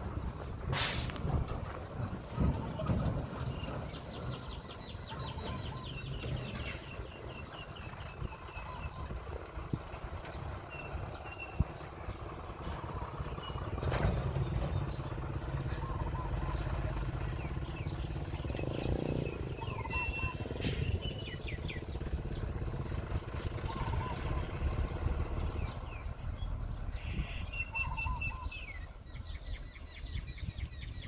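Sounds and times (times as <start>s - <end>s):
heavy machinery diesel engine: 0.0s - 29.9s
small birds chirping: 0.0s - 31.0s.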